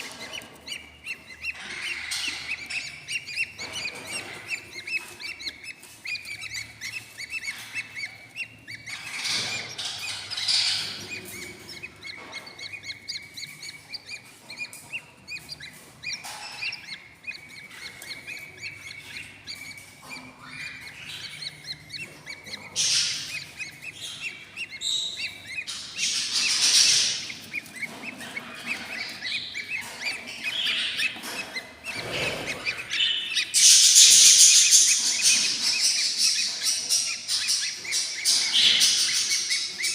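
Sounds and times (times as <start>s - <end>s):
bird chicks cheeping: 0.0s - 39.9s.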